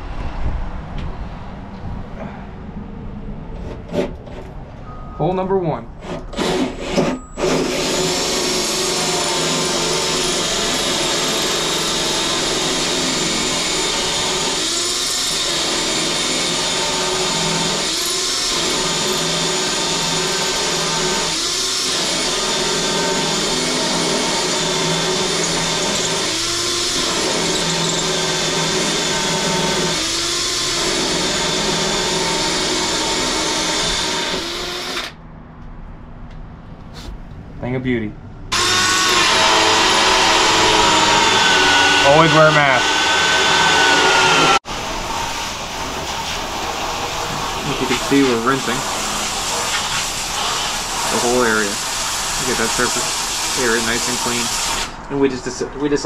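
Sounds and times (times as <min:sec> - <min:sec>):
power drill cutting fiberglass: 0:06.0 - 0:35.2, 0:38.5 - 0:55.1.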